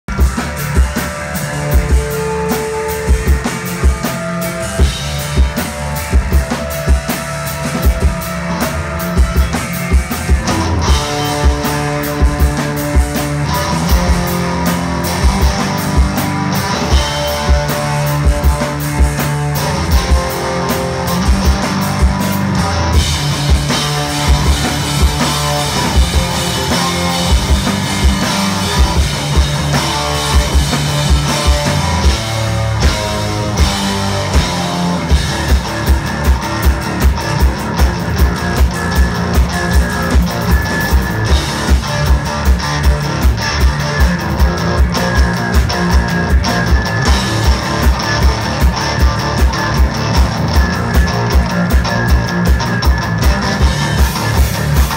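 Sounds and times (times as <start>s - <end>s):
drum kit: 0.0s - 54.9s
electric bass: 0.0s - 54.9s
electric guitar: 0.0s - 54.9s.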